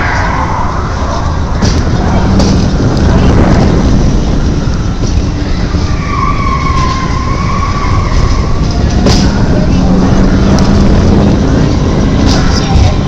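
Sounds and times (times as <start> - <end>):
ride vehicle rumbling: 0.0 - 13.0.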